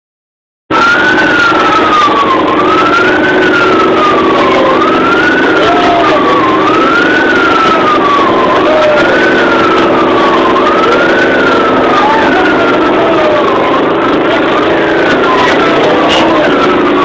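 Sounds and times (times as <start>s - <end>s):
siren wailing: 0.7s - 17.0s.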